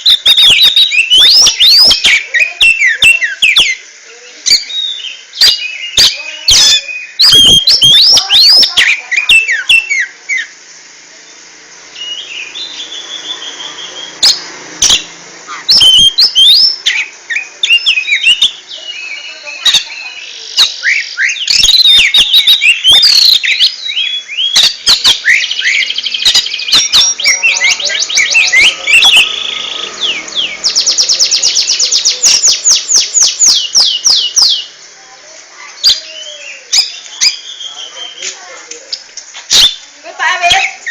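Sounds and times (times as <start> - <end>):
bird singing whistled song: 0.0 - 3.8, 4.4 - 10.5, 12.0 - 34.8, 35.8 - 39.8, 40.5 - 40.9.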